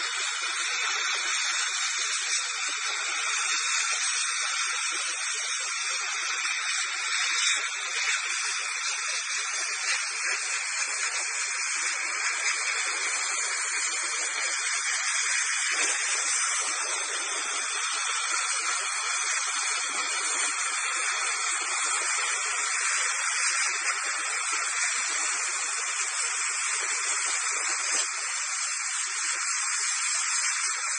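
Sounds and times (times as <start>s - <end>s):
dental air polisher hissing: 0.0s - 30.9s.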